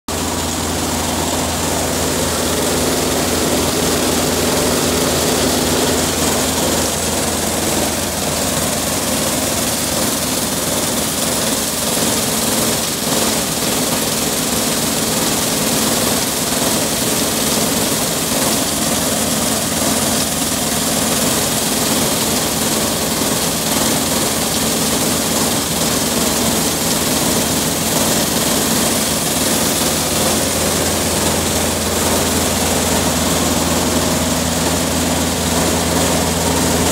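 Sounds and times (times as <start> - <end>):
engine running: 0.0 - 36.9.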